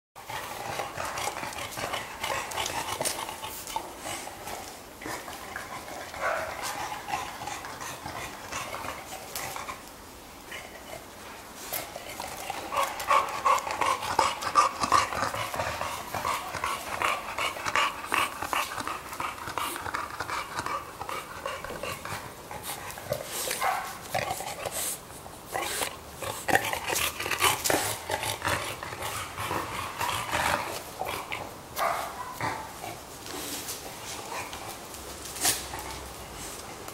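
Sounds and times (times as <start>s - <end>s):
dogs panting: 0.2s - 9.9s, 11.8s - 36.9s
dogs snuffling: 0.2s - 36.9s.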